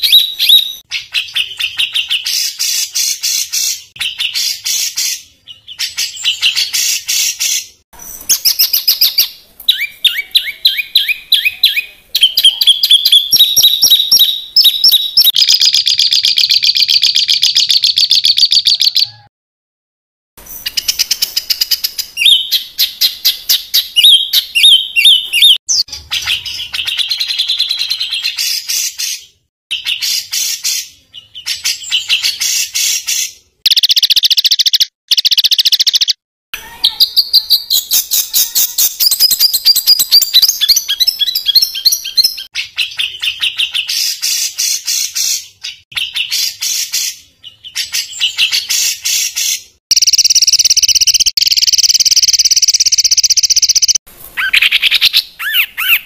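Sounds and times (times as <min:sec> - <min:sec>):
songbird singing rapid high notes: 0:00.0 - 0:19.3, 0:20.5 - 0:47.2, 0:47.8 - 0:56.0.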